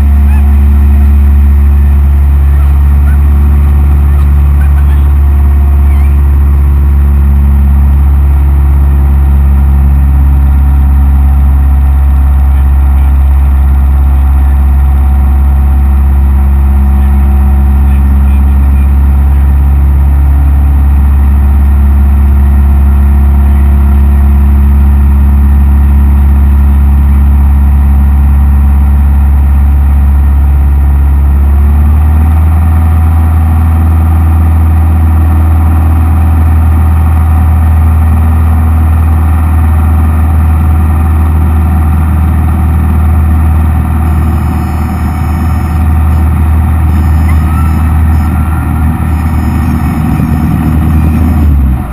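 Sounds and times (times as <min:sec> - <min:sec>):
airplane engine and propeller drone: 0:00.0 - 0:51.9.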